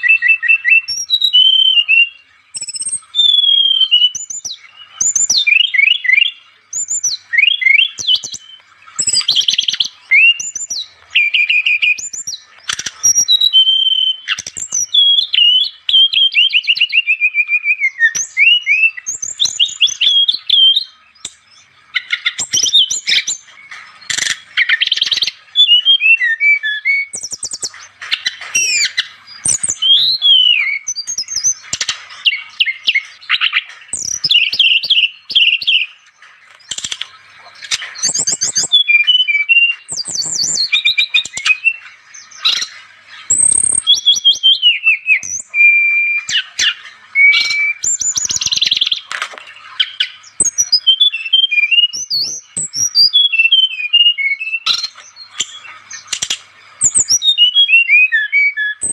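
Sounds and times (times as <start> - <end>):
bird singing chattering trills: 0.0 - 58.9.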